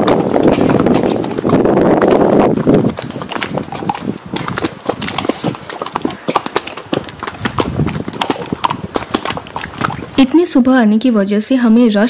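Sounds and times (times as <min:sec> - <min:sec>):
horse hooves clip-clopping: 0:00.0 - 0:10.6.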